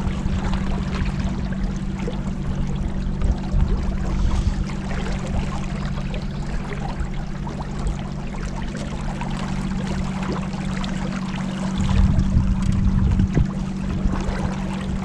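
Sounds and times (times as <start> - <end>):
boat engine hum: 0.0 - 15.0
water splashing along hull: 0.0 - 15.0.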